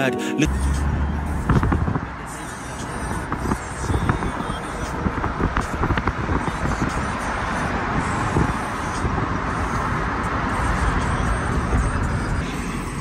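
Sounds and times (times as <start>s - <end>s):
road and tyre noise: 0.0s - 13.0s.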